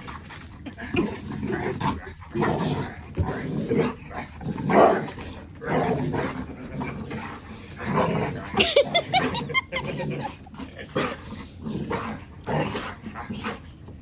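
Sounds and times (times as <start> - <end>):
dog growling and barking: 0.0 - 13.7.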